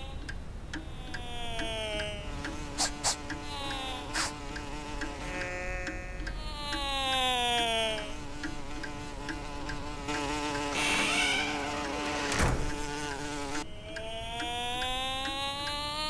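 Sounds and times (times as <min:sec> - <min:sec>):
cartoon bee buzzing: 0:00.0 - 0:16.0.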